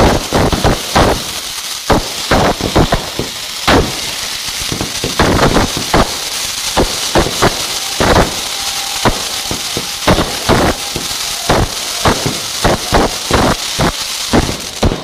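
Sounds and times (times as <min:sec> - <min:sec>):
crackling hiss of fireworks: 0:00.0 - 0:15.0
loud firecracker bangs: 0:00.0 - 0:15.0.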